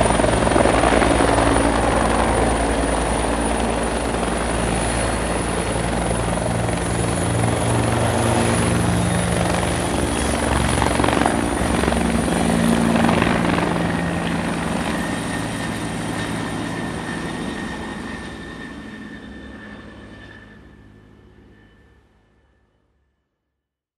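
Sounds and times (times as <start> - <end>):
high turbine whine: 0.0 - 21.4
helicopter rotor noise: 0.0 - 22.5.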